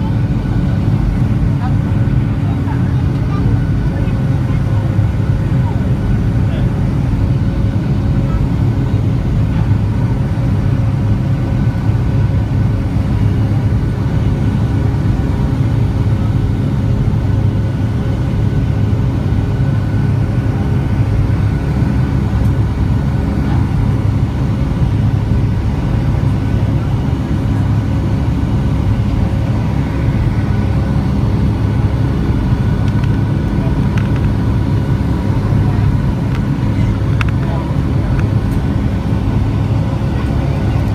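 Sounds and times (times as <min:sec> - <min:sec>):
jet engine drone in cabin: 0:00.0 - 0:40.9.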